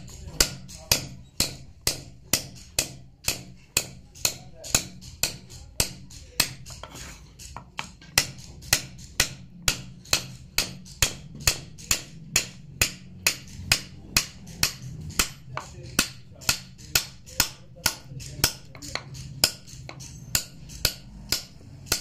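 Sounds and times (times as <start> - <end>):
mallet tapping chisel into wood: 0.0 - 22.0.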